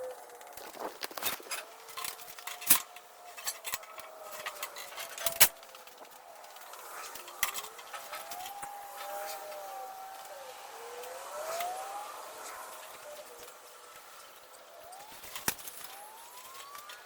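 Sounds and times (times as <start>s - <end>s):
faint wavering tone: 0.0s - 17.0s.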